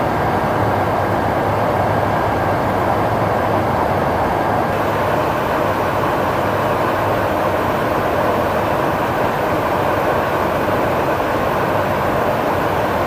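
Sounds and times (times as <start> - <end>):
aircraft airflow and engines drone: 0.0 - 13.0
faint steady whine: 0.0 - 13.0.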